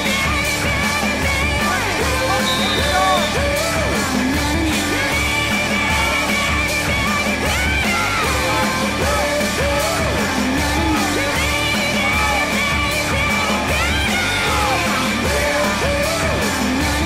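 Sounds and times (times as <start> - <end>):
music with steady beat: 0.0 - 17.0
person singing: 0.0 - 17.0.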